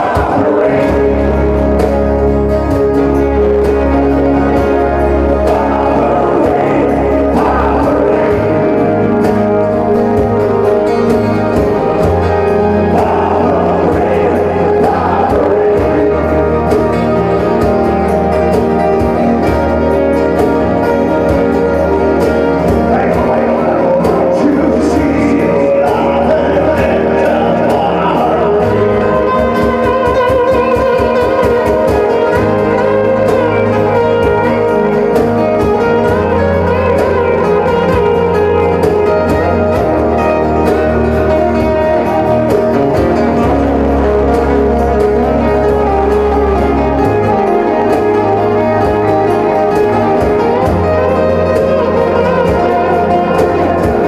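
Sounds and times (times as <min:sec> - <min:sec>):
person singing: 0:00.0 - 0:10.9, 0:11.6 - 0:18.8, 0:20.4 - 0:54.0
acoustic guitars strumming: 0:00.0 - 0:54.0
cajon drumming: 0:00.0 - 0:54.0
keyboard: 0:00.0 - 0:54.0.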